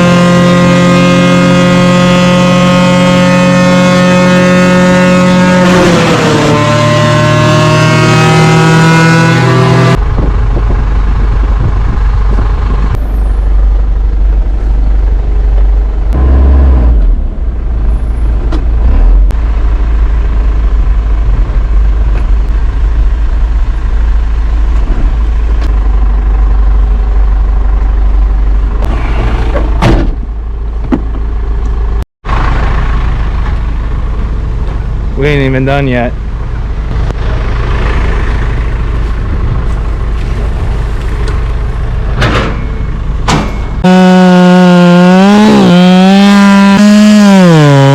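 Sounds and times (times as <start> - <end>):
large engine rumbling: 0.0 - 47.9.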